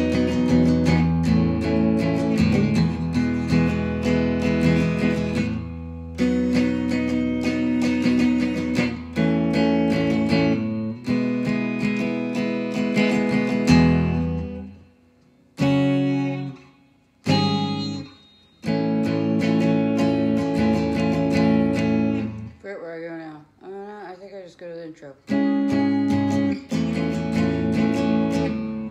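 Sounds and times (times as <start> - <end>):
electric guitar strumming chords: 0.0 - 22.6, 25.3 - 28.9.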